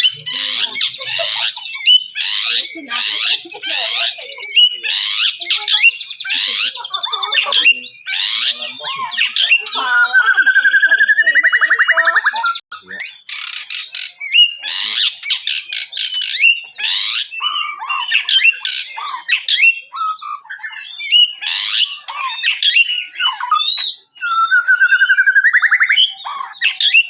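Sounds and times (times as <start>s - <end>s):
bird singing varied song: 0.0s - 27.0s
rapid pulsed bird trill: 0.0s - 27.0s.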